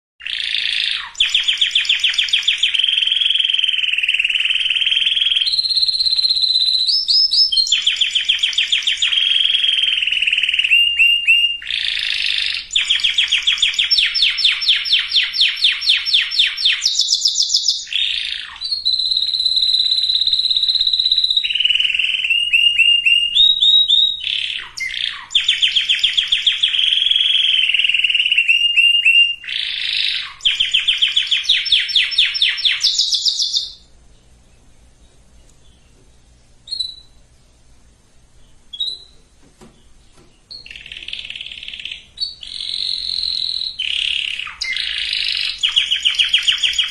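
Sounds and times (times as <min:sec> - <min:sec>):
canary singing trills: 0:00.2 - 0:46.9.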